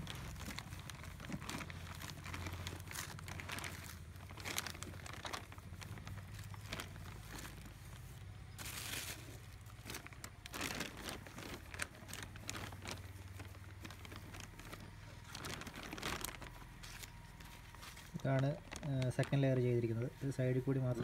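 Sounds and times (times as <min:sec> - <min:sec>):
plastic bag crinkling: 0:00.0 - 0:21.0
straw rustling: 0:00.0 - 0:21.0.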